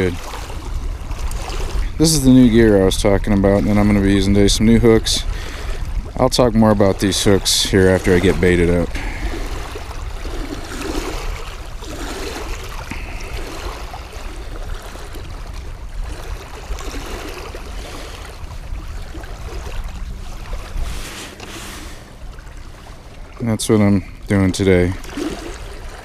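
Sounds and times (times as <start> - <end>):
small waves lapping on rocks: 0.0 - 26.0
wind buffeting microphone: 0.0 - 26.0.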